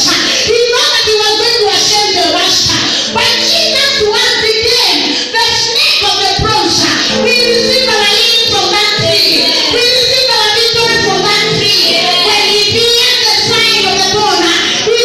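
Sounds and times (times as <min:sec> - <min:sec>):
woman singing into microphone: 0:00.0 - 0:15.0.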